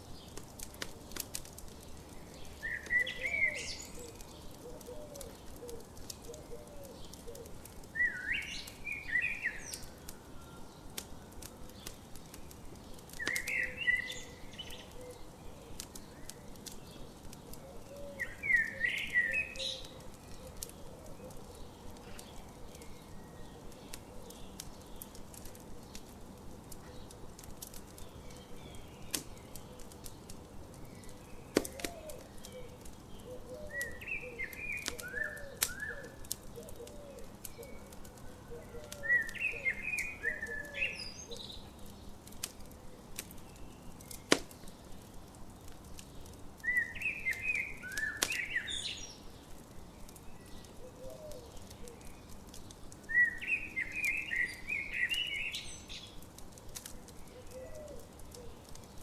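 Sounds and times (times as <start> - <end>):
campfire crackling and popping: 0.0 - 59.0
soft hiss: 0.0 - 59.0
songbirds chirping: 0.0 - 59.0.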